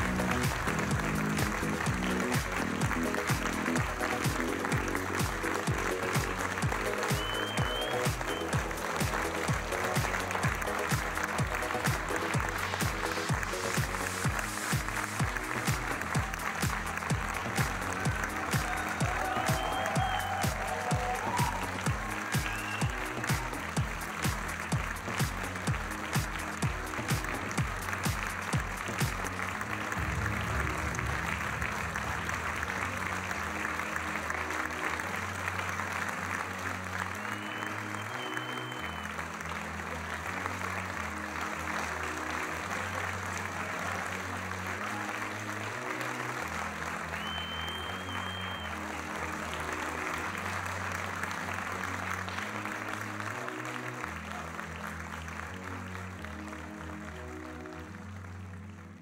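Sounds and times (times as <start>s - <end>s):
audience applauding: 0.0s - 59.0s
background music with bass: 0.0s - 59.0s.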